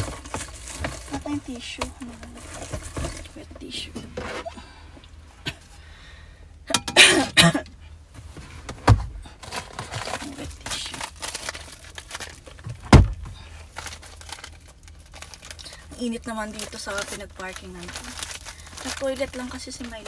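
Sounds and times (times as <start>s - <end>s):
rustling handling noise: 0.0s - 5.7s, 8.0s - 20.0s.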